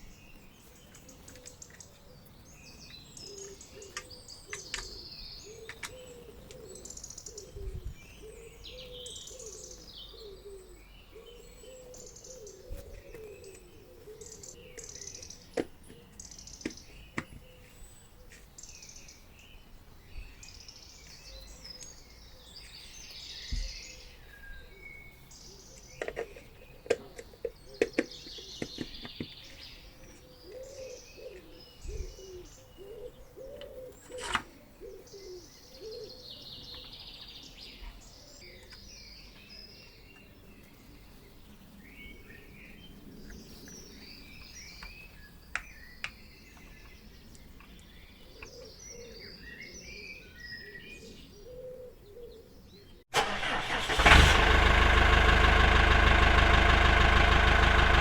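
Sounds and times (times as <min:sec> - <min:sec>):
birds chirping and singing: 0:00.0 - 0:58.0.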